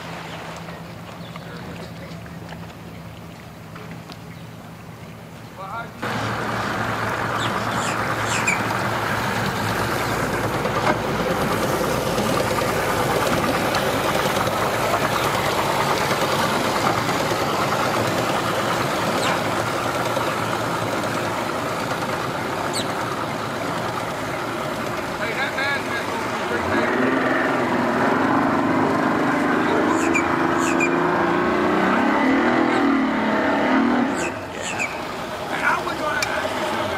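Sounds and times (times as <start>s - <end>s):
churning prop wash: 0.0s - 36.9s
outboard motor running: 0.0s - 36.9s.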